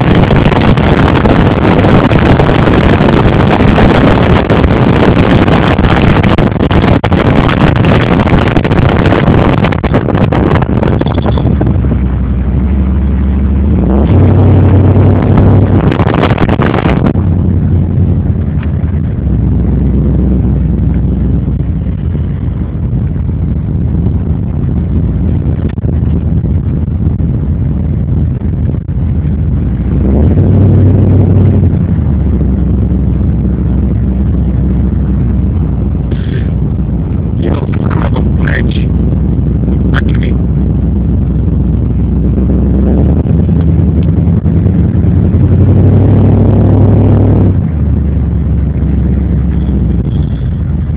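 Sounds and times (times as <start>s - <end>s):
car engine accelerating: 0.0s - 50.9s
wind on microphone: 0.0s - 50.9s.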